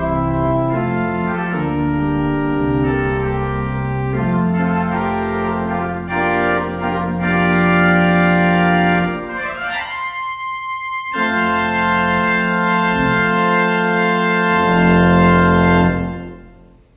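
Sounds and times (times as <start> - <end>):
organ playing chords: 0.0 - 16.9.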